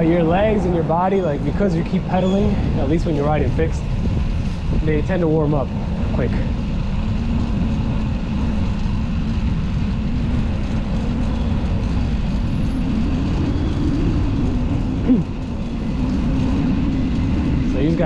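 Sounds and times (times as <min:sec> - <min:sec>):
street traffic: 0:00.0 - 0:18.0
wind rumble: 0:00.0 - 0:18.0.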